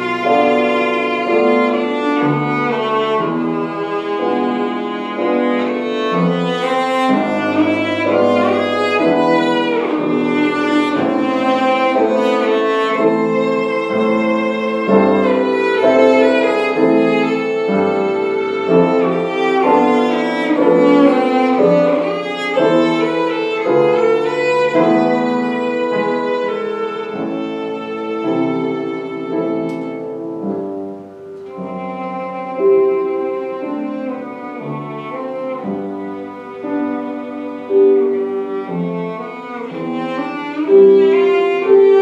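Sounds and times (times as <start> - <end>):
violin playing fast classical melody: 0.0 - 30.6, 31.5 - 42.0
piano accompaniment: 0.0 - 42.0.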